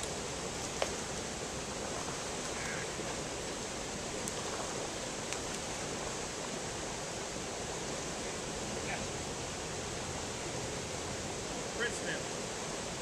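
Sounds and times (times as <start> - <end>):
creek water running over rocks: 0.0 - 13.0.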